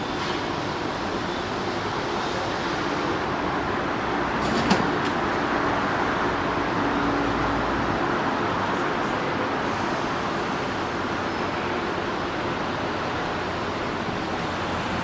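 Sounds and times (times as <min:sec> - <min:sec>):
city traffic rumble: 0:00.0 - 0:15.0
rail noise: 0:00.0 - 0:15.0.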